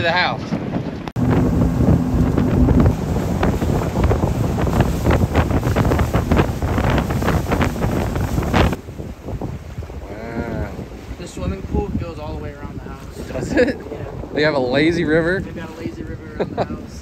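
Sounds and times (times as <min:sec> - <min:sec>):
boat hull slapping water: 0:00.0 - 0:17.0
wind buffeting microphone: 0:00.0 - 0:17.0.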